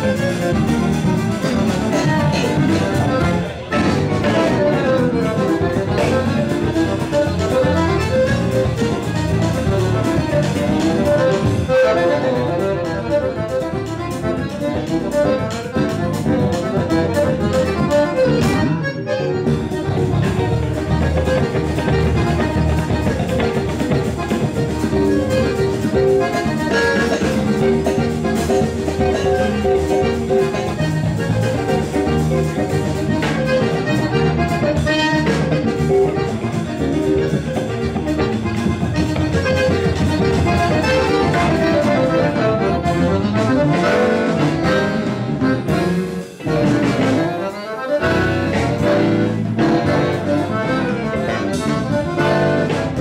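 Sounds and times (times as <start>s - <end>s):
accordion playing melody: 0.0s - 53.0s
bass: 0.0s - 53.0s
drums: 0.0s - 53.0s
electric guitar: 0.0s - 53.0s.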